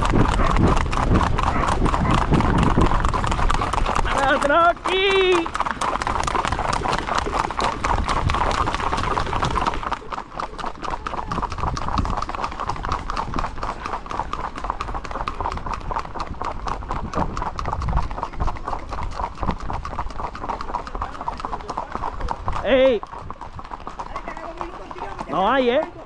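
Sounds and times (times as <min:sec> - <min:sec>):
horse hooves on asphalt: 0:00.0 - 0:26.0.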